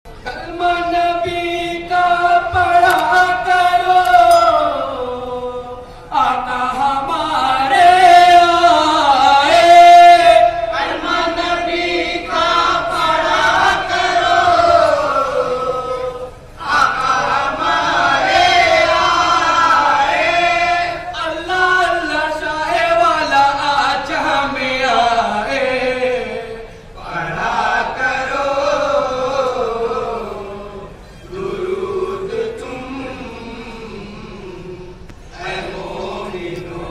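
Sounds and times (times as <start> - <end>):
men chanting through a microphone: 0.1 - 36.9.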